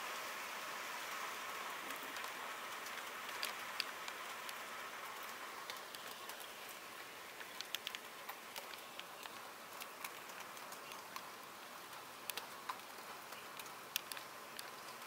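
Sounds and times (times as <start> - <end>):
faint steady hiss: 0.0 - 15.0
small ticks and crackles: 0.0 - 15.0.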